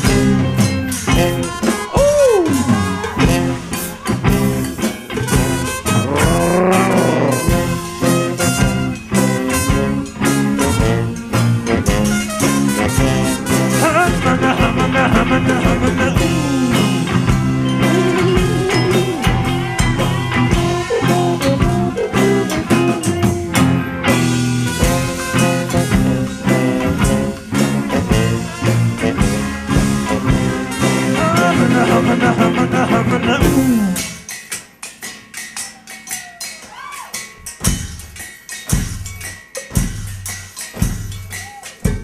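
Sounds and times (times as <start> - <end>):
instrumental swing band music: 0.0 - 42.0.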